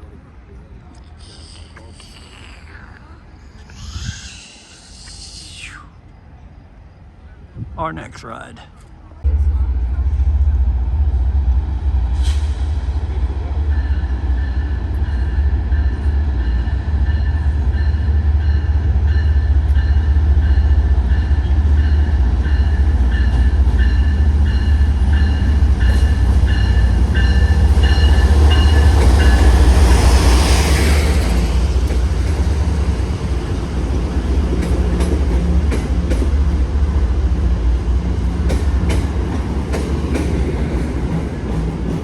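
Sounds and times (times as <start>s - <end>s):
train rumbling: 0.0s - 8.0s, 8.6s - 42.0s.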